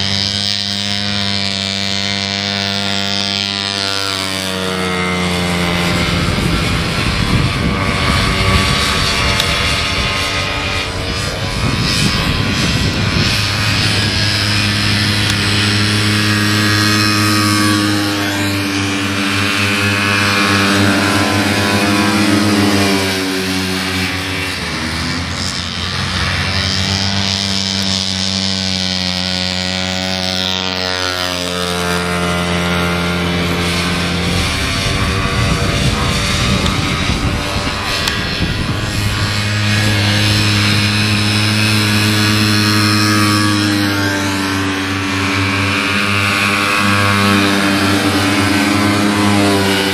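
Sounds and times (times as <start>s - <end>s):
snowmobile engines racing: 0.0s - 49.9s.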